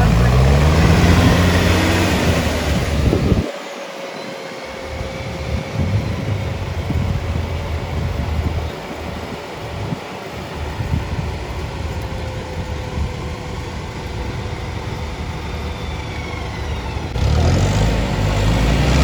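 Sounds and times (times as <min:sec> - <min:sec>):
engine revving: 0:00.0 - 0:03.5, 0:04.8 - 0:10.0, 0:12.0 - 0:19.0
low uneven engine rumble: 0:00.0 - 0:03.5, 0:04.3 - 0:19.0.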